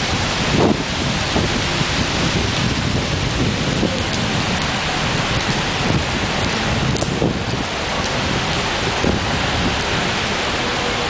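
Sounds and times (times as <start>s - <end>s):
heavy rain hiss: 0.0s - 11.0s.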